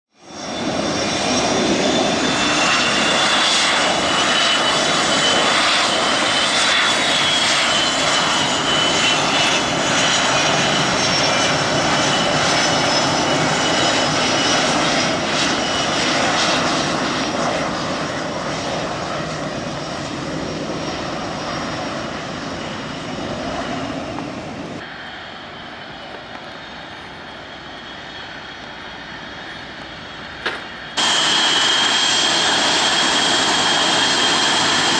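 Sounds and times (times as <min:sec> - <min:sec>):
jet engines roaring: 0:00.2 - 0:34.9.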